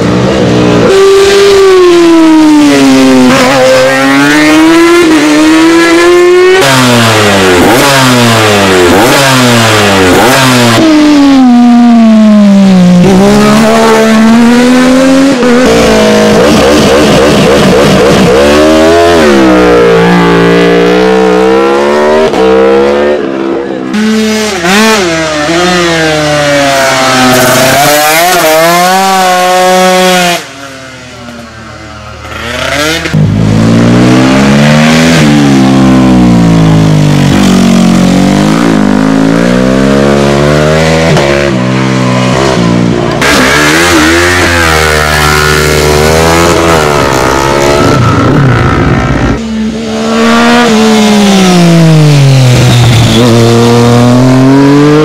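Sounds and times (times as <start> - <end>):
racing motorcycles at full throttle: 0.0 - 55.0.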